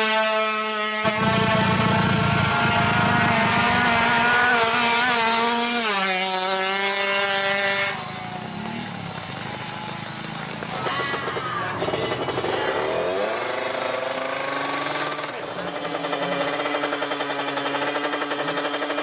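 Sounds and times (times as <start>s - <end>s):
motorcycle engines at high revs: 0.0s - 19.0s.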